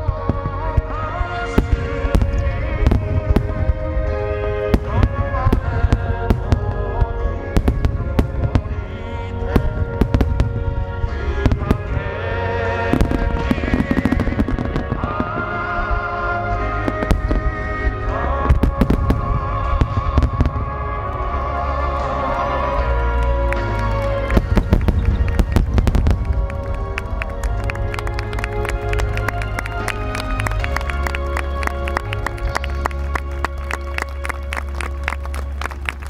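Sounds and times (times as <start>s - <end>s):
fireworks bursts and crackles: 0.0s - 36.0s
music with sustained melody: 0.0s - 36.0s.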